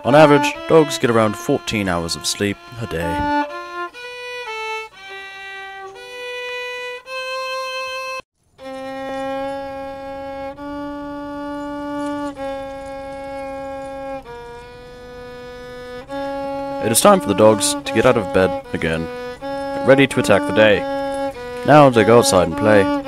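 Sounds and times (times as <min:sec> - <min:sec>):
solo violin melody: 0:00.0 - 0:23.0.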